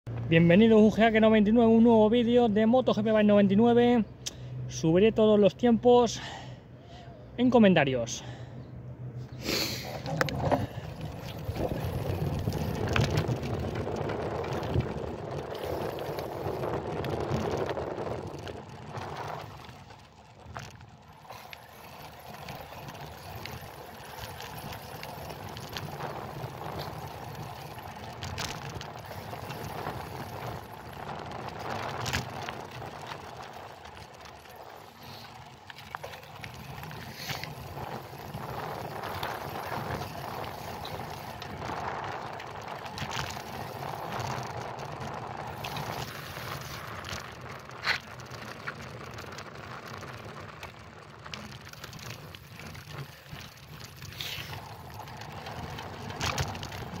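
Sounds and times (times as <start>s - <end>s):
bicycle riding noise on asphalt: 0.1s - 57.0s.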